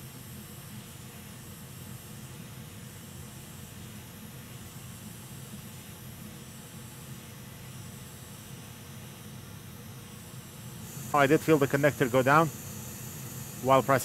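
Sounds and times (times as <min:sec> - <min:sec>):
hot air station hissing: 0:00.0 - 0:14.0.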